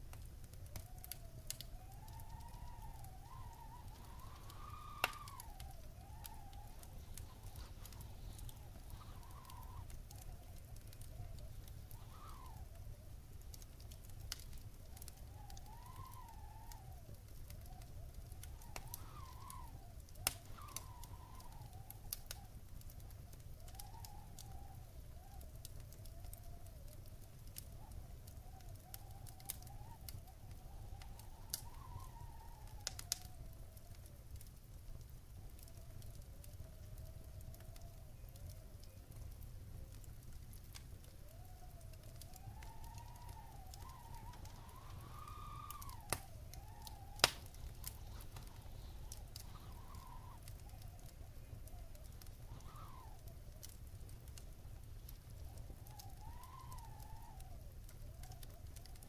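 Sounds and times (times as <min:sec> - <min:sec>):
fire crackling and popping: 0:00.0 - 0:59.0
fire rumbling in fireplace: 0:00.0 - 0:59.0
faint wavering whistle: 0:00.2 - 0:34.2, 0:41.0 - 0:59.0.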